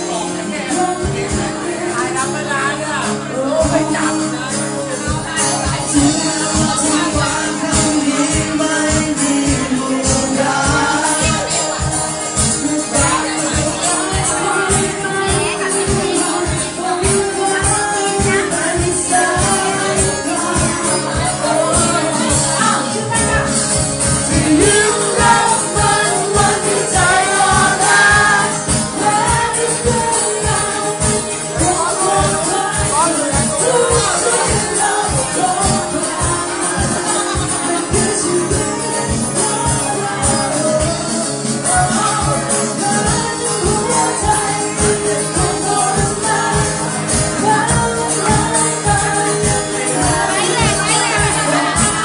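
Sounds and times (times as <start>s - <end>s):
steady drum beat: 0.0s - 2.4s, 3.3s - 52.0s
live pop band playing: 0.0s - 52.0s.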